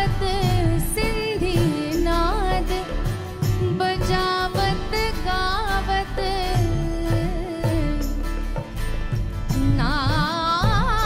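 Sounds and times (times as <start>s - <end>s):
deep pitch-bending drum beats: 0.0s - 11.0s
percussion ensemble: 0.0s - 11.0s
woman singing: 0.0s - 11.0s.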